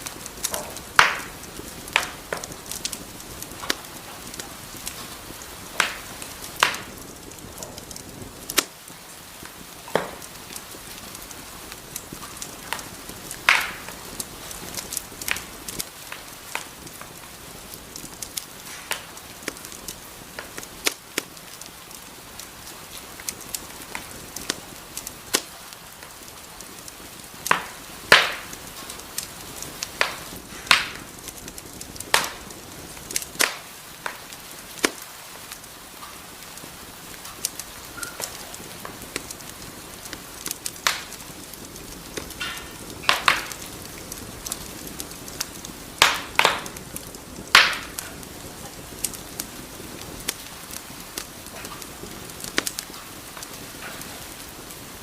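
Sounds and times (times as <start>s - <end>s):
fire hissing: 0.0s - 55.0s
wood fire crackling and popping: 0.0s - 55.0s.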